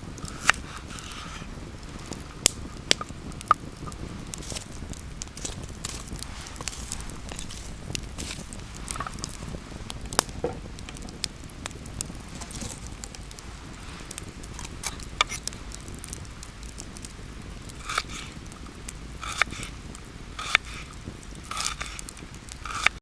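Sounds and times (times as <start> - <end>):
campfire crackling: 0.0 - 23.0
sharp fire pops: 0.0 - 23.0.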